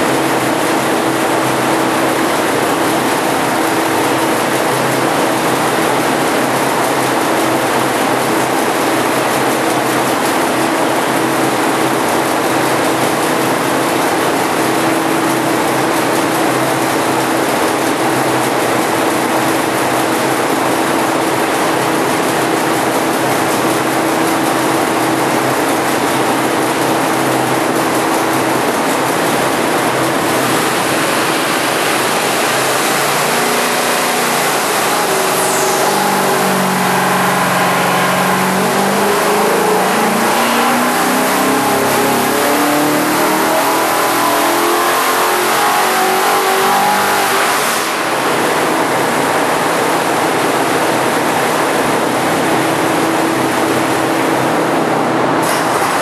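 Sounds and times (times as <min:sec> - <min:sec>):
engine running at steady speed: 0:00.0 - 0:56.0.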